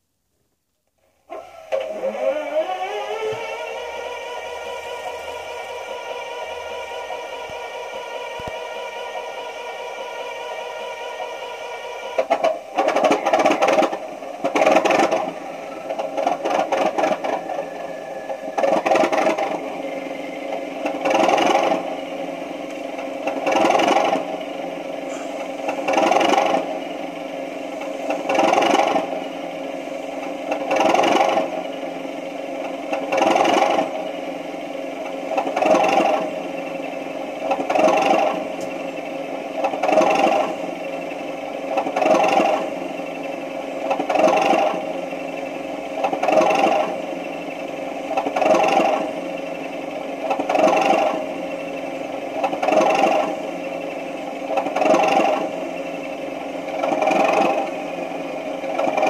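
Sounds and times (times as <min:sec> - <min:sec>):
diesel engine through loudspeaker: 0:01.4 - 0:59.0.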